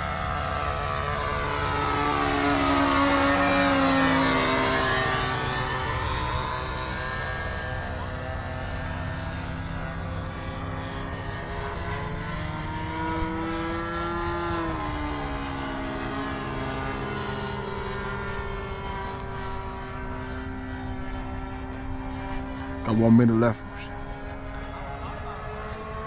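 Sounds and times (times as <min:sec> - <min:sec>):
model airplane engine passing by: 0:00.0 - 0:26.0.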